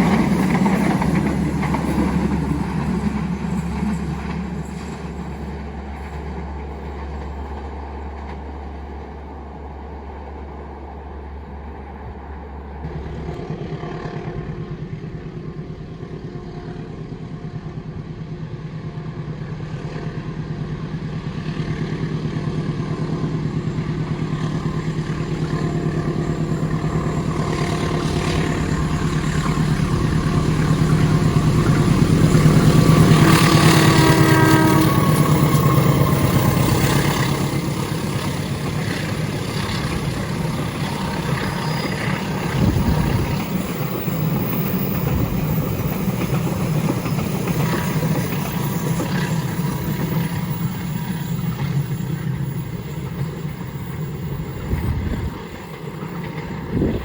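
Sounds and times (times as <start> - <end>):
diesel train passing: 0.0 - 57.0.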